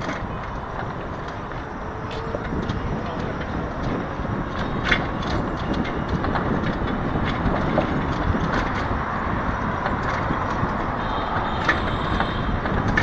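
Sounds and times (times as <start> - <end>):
motorcycle rumbling: 0.0 - 13.0
rattles and clicks: 0.0 - 13.0.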